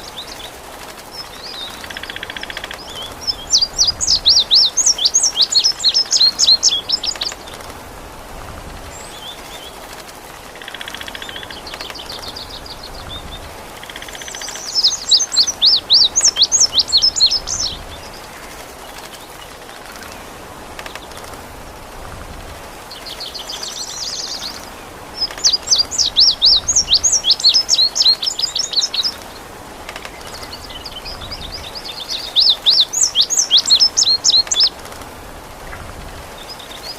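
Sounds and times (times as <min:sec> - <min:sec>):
hiss of rain or running water: 0:00.0 - 0:36.9.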